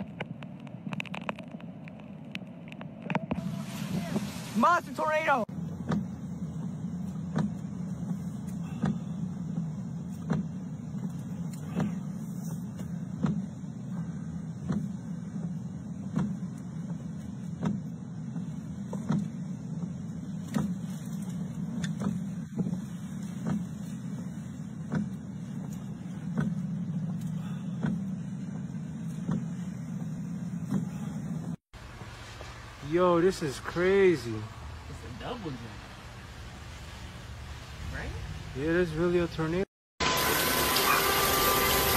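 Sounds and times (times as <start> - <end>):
low hum of car cabin: 0.0 - 41.9
windshield wipers sweeping: 2.4 - 38.1, 40.0 - 41.9.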